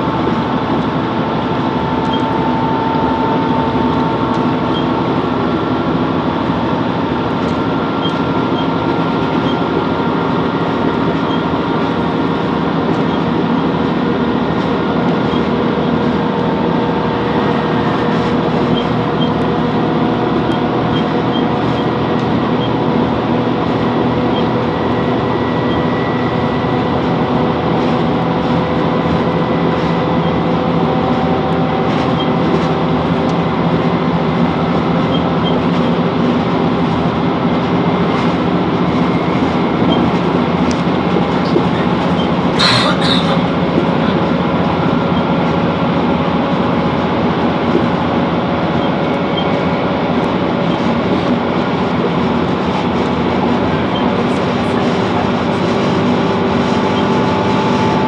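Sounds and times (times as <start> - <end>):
diesel train engine and rail drone: 0.0 - 58.0.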